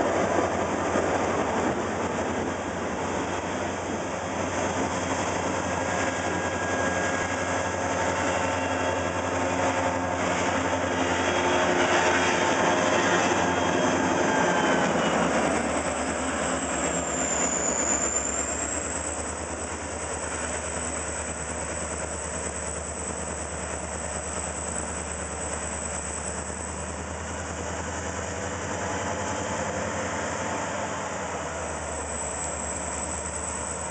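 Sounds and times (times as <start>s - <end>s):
diesel locomotives rumbling: 0.0s - 33.9s.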